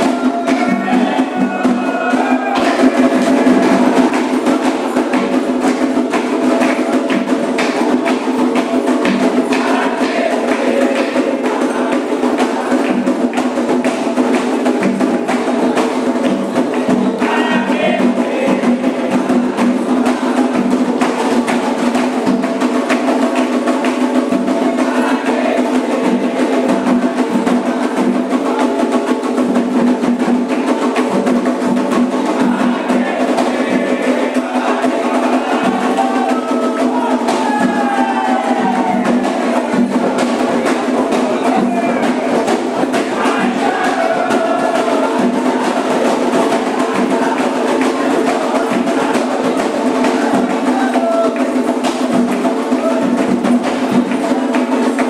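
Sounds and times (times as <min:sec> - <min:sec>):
fast drum percussion: 0:00.0 - 0:55.0
voices singing: 0:00.0 - 0:55.0
wood block beat: 0:00.0 - 0:55.0.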